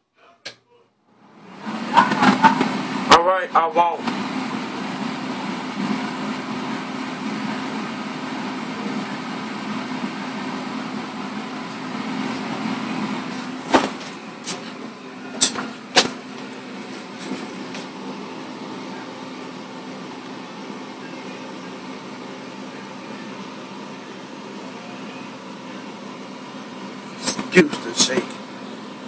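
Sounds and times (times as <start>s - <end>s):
exhaust fan running: 0.4s - 29.0s.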